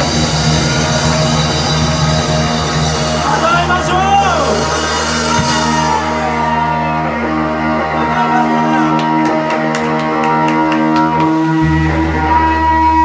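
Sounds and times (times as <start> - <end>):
bass guitar: 0.0 - 13.0
electric guitar chords ringing: 0.0 - 13.0
live rock band playing: 0.0 - 13.0.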